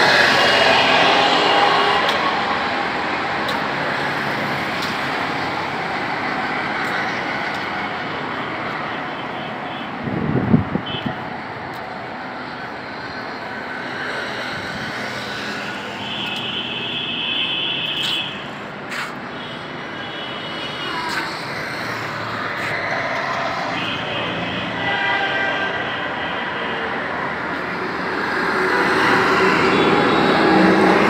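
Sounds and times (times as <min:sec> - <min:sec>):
road traffic hum: 0:00.0 - 0:31.0.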